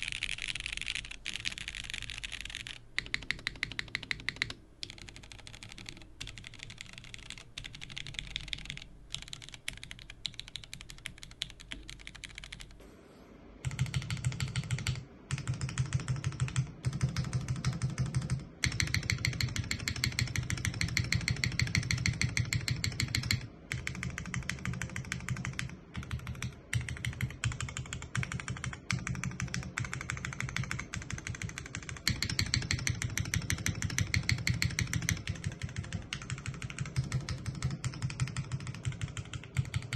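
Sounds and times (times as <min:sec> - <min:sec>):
mechanical keyboard typing: 0:00.0 - 0:12.8, 0:13.6 - 0:39.9.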